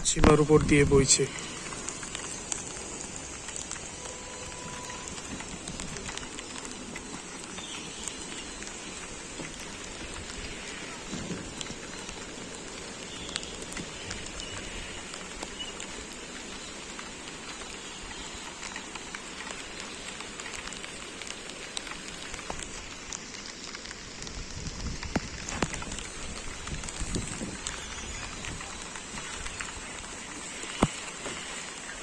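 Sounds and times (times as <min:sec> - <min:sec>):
rain falling: 0:00.0 - 0:32.0
rushing river water: 0:00.0 - 0:32.0.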